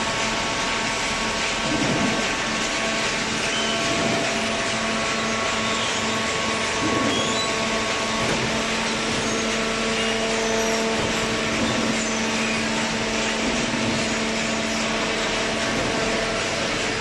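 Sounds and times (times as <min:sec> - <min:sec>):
baler machine hum: 0:00.0 - 0:17.0.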